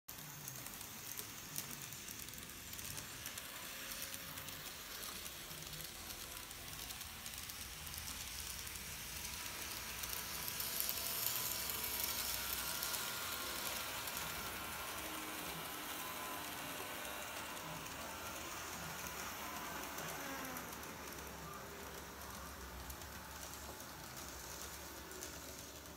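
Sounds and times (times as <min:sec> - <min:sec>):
model train motors hissing: 0:00.1 - 0:25.9.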